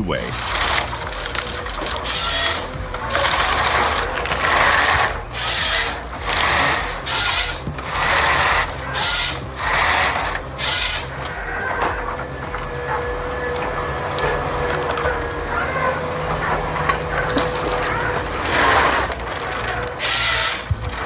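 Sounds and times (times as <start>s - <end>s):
motorised saw cutting: 0.0s - 21.0s.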